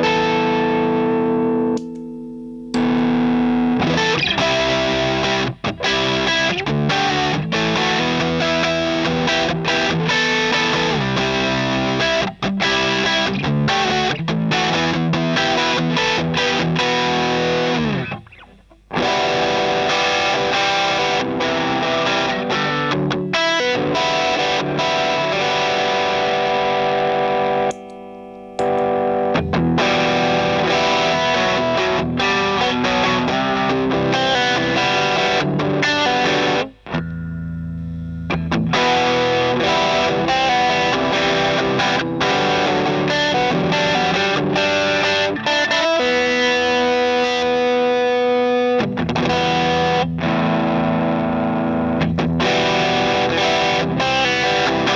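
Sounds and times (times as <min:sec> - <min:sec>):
overdriven electric guitar: 0:00.0 - 0:54.9.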